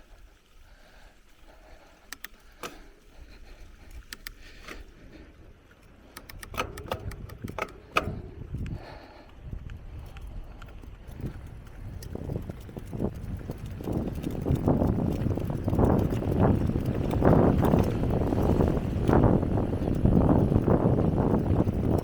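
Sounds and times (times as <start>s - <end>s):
bicycle chain and frame rattling: 0.0s - 22.0s
tyre and wind rumble: 2.6s - 22.0s.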